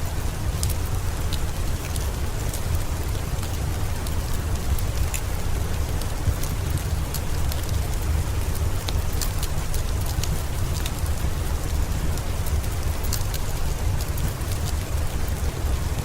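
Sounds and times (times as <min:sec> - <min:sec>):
steady heavy rain: 0:00.0 - 0:16.0.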